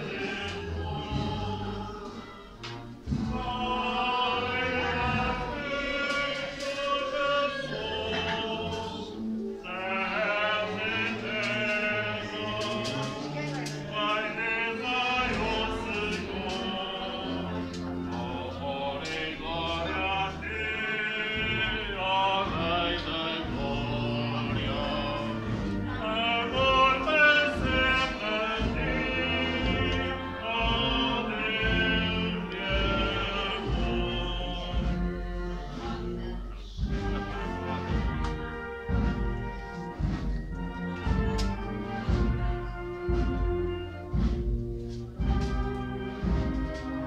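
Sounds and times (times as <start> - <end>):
choral singing: 0.0 - 47.0
instrumental accompaniment: 0.0 - 47.0.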